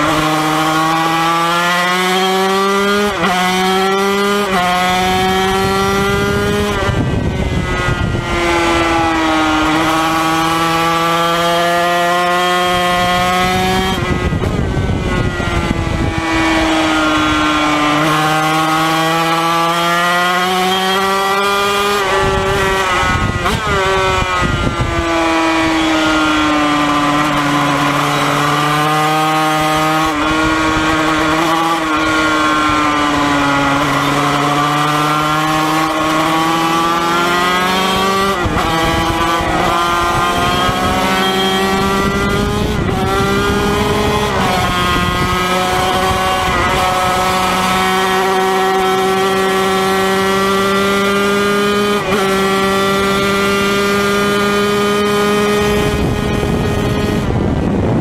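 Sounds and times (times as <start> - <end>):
racing engine at high revs: 0.0 - 58.0
wind noise: 0.0 - 58.0.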